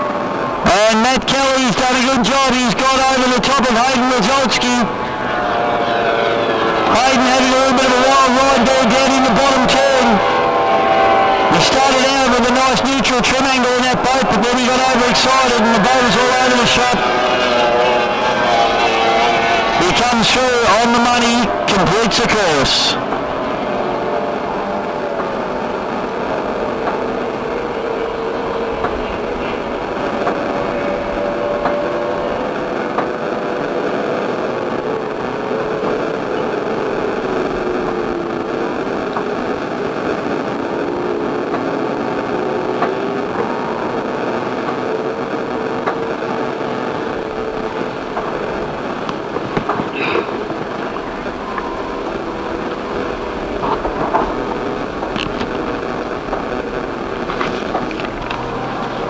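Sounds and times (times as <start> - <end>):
outboard motor high whine: 0.0 - 59.0
rush of noise: 0.0 - 59.0.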